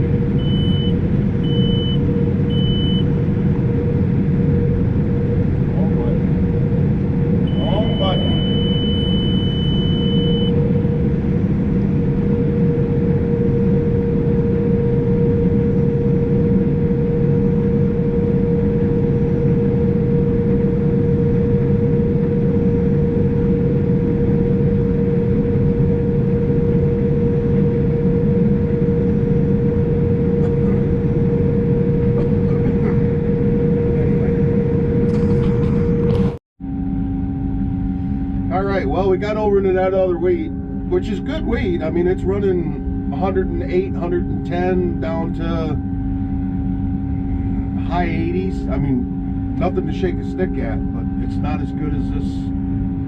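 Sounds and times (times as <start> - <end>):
combine harvester droning: 0.0 - 53.0
steady machine whine: 0.0 - 53.0.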